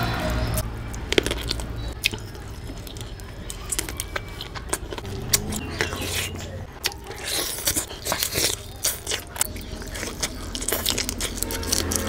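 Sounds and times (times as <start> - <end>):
wet squishing of food: 0.0 - 12.0
chewing with mouth clicks: 0.2 - 12.0.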